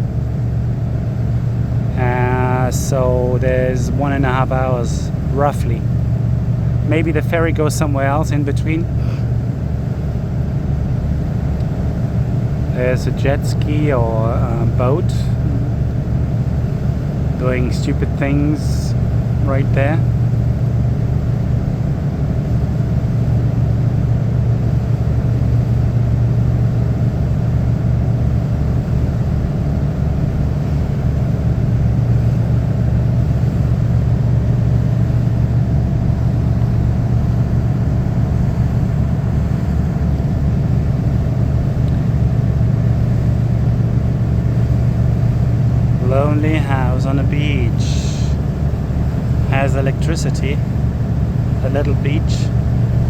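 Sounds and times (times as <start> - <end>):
ferry engine droning: 0.0 - 53.0.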